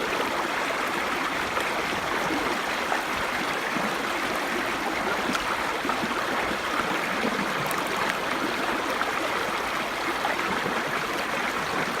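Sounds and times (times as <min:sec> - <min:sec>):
brook babbling: 0:00.0 - 0:12.0.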